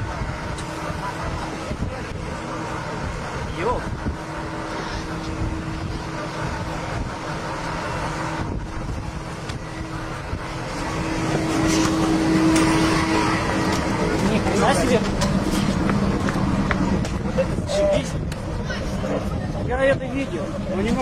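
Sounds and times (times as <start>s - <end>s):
rushing noise: 0.0s - 21.0s
steady engine drone: 0.0s - 21.0s.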